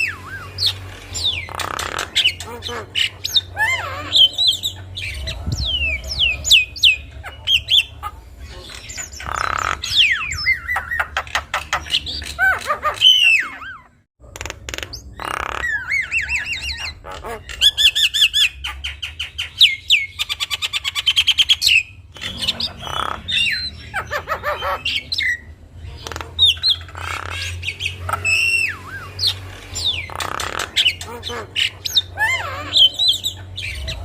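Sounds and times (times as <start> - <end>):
myna whistling and squawking: 0.0 - 14.0, 14.9 - 34.0.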